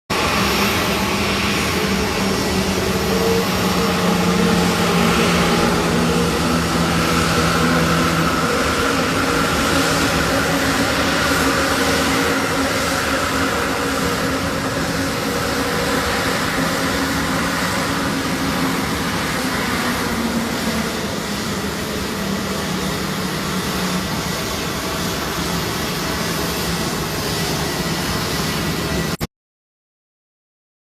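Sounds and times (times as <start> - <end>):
aeroplane engines rushing hum: 0.1 - 29.3.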